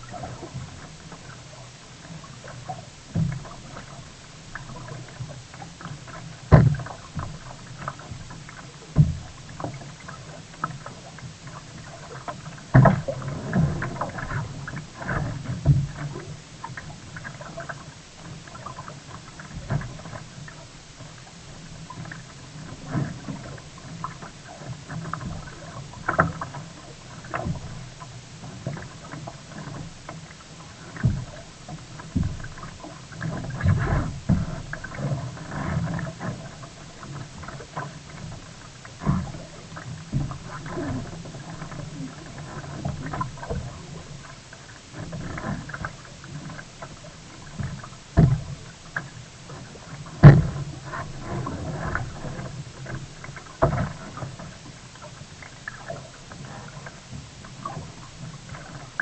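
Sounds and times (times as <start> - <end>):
paddle splashes: 0.0 - 59.0
water slapping against hull: 0.0 - 59.0.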